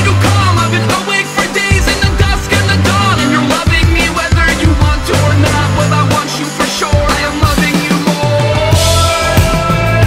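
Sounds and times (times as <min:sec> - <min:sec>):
music with drums and bass: 0:00.0 - 0:10.0.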